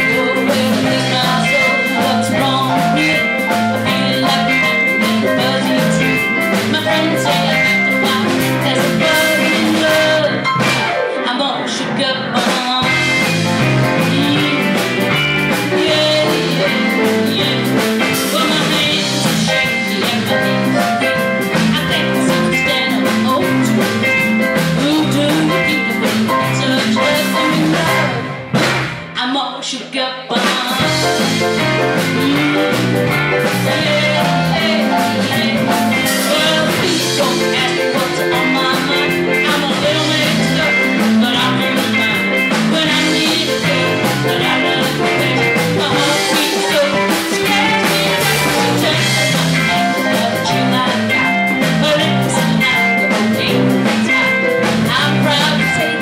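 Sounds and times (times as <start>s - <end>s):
live blues-rock band playing: 0.0s - 29.2s, 30.3s - 56.0s
person singing: 0.0s - 56.0s.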